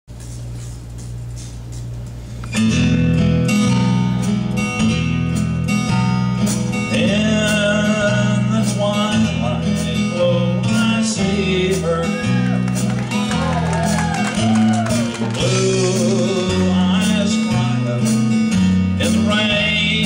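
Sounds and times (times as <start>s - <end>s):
acoustic guitar country music: 0.6s - 20.0s.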